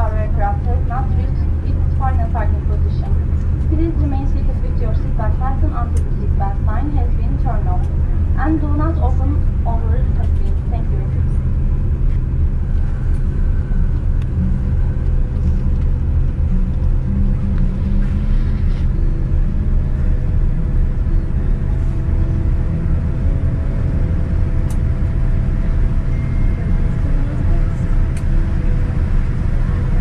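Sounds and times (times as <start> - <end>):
airliner cabin low rumble: 0.0 - 30.0
faint whine: 0.0 - 30.0.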